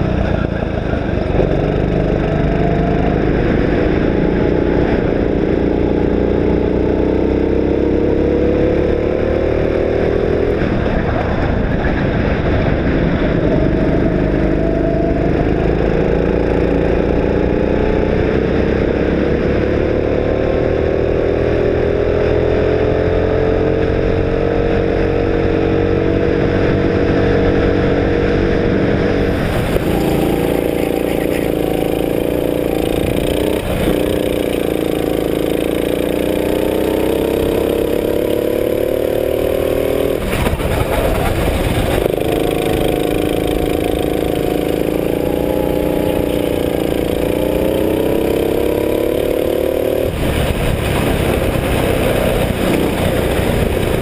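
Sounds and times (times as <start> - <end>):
go-kart engine racing: 0.0 - 54.0.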